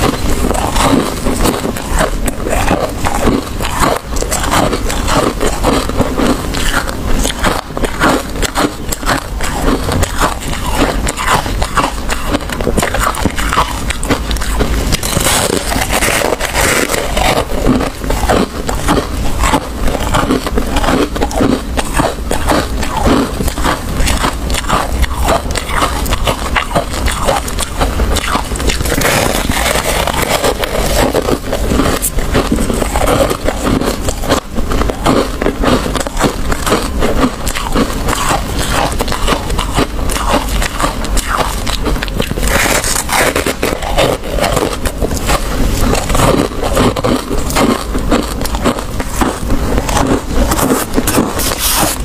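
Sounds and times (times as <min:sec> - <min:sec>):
frost crunching as chewed: 0:00.0 - 0:52.0.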